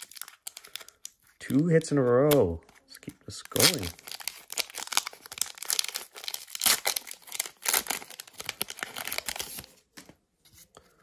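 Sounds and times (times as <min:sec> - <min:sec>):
foil wrapper crinkling and tearing: 0:00.0 - 0:02.6, 0:03.3 - 0:09.8.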